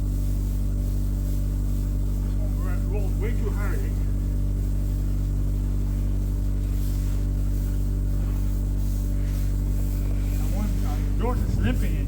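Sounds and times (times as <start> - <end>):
farm machine engine running: 0.0 - 12.0.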